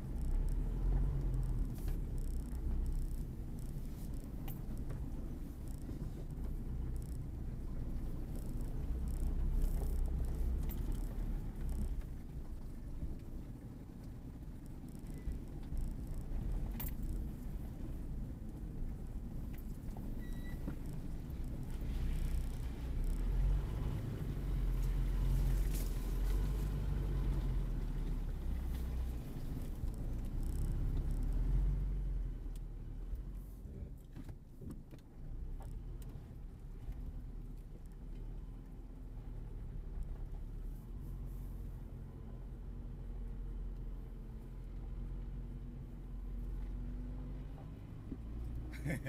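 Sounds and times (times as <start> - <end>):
engine rumbling under load: 0.0 - 49.0.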